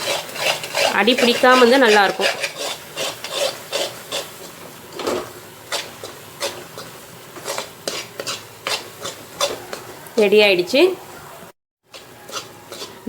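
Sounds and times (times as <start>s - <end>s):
ladle scraping a pan: 0.0s - 10.0s, 11.9s - 13.0s.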